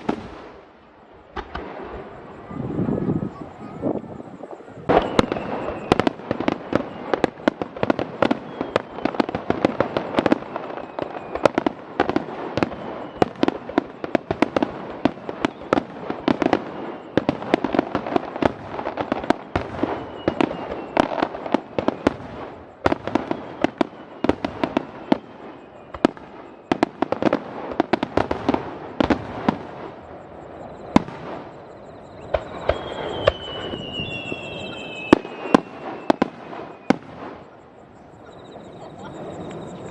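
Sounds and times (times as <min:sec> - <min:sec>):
falling firework whistle: 0:00.0 - 0:39.9
fireworks bursting and crackling: 0:00.0 - 0:39.9.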